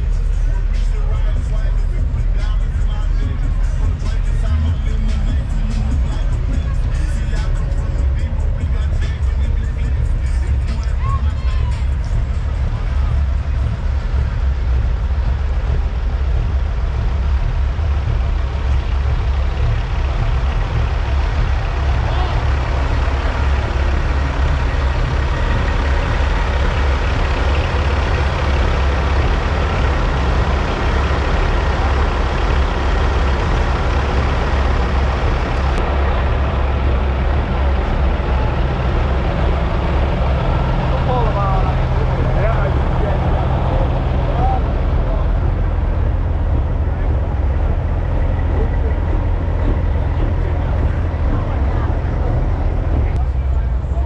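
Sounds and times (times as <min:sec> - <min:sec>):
people talking: 0:00.0 - 0:54.0
truck engines idling: 0:00.0 - 0:54.0.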